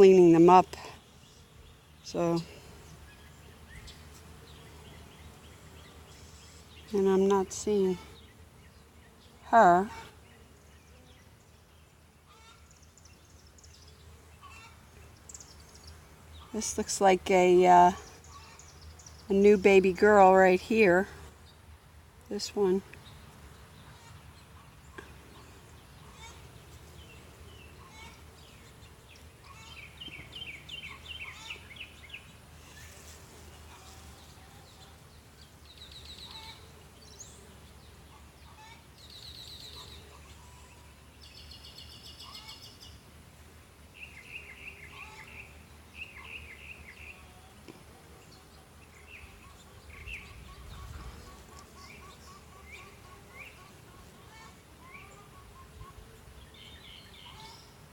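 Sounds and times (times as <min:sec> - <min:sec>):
songbirds singing: 0:00.0 - 0:43.2, 0:43.9 - 0:57.9.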